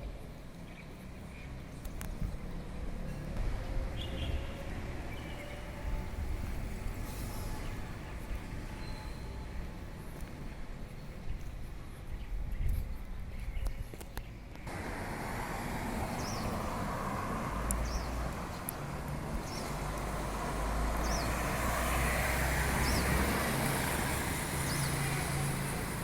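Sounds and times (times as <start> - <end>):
low traffic rumble: 0.0 - 26.0.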